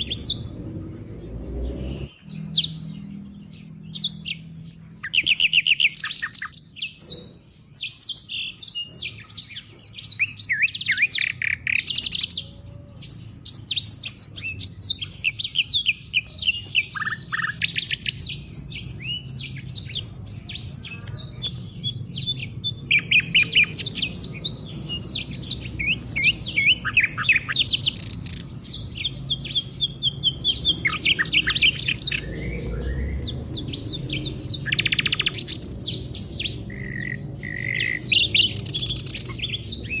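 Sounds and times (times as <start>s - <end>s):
songbirds chirping and twittering: 0.0s - 40.0s.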